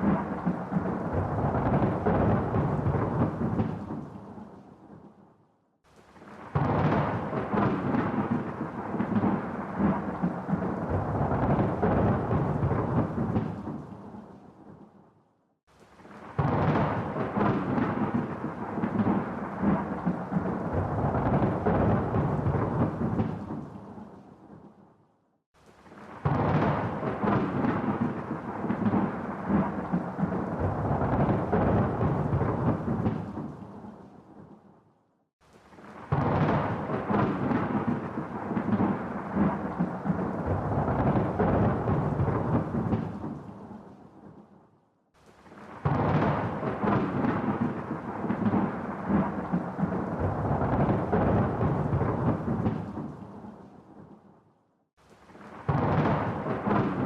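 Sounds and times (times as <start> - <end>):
rain: 0.0 - 5.1, 5.9 - 14.9, 15.7 - 24.7, 25.6 - 34.6, 35.4 - 44.4, 45.2 - 54.1, 55.0 - 57.0
rolling thunder: 0.0 - 5.1, 6.2 - 14.8, 16.0 - 24.7, 25.8 - 34.5, 35.7 - 44.4, 45.4 - 54.1, 55.3 - 57.0.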